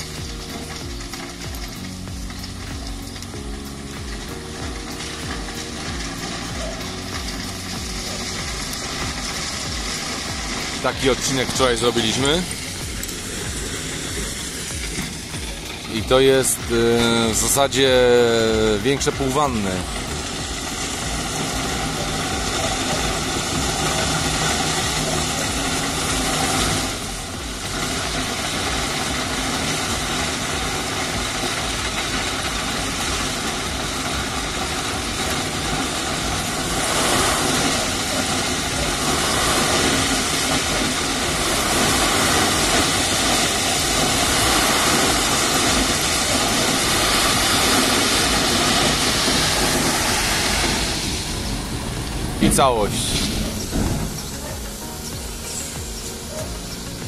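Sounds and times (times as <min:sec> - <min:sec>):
heavy machine engine running: 0:00.0 - 0:57.0
loud rushing noise: 0:00.0 - 0:57.0.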